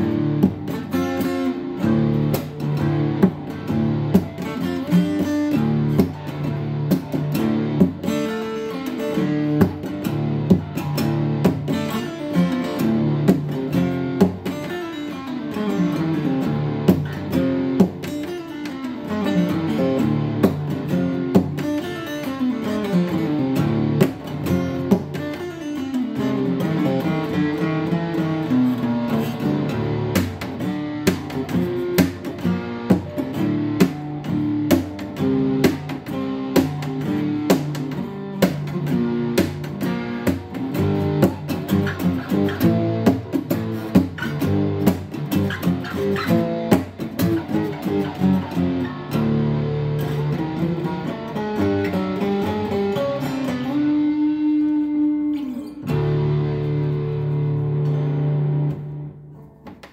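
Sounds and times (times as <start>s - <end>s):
acoustic guitar picking: 0.0s - 59.9s.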